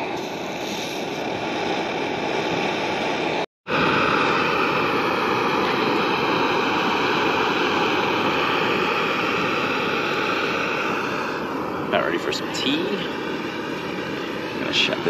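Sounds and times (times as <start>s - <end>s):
gas stove burner hissing: 0.0s - 15.0s
water boiling: 0.0s - 15.0s.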